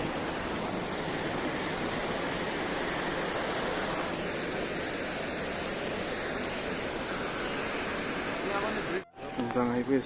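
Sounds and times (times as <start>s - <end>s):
river water rushing: 0.0s - 9.0s.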